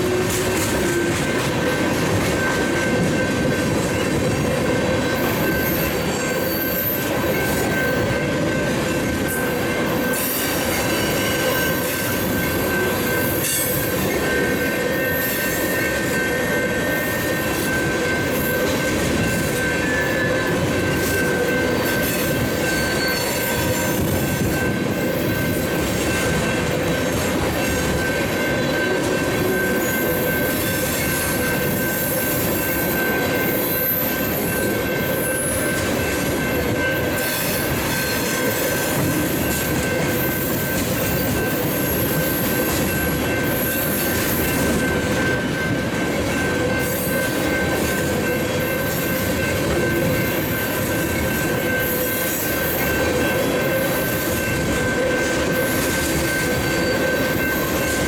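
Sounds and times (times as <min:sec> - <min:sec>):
wheels on rails: 0:00.0 - 0:58.0.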